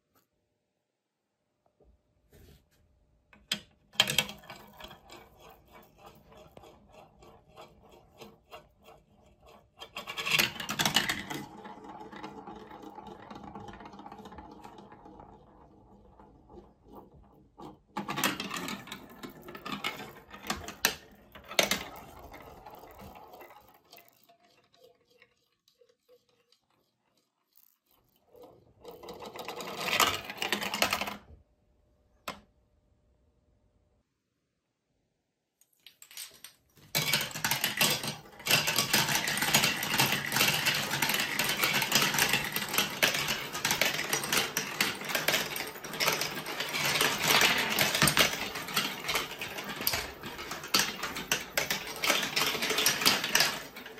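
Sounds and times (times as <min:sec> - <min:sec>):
plastic ball rolling down marble run: 0:03.4 - 0:31.3, 0:35.9 - 0:53.9.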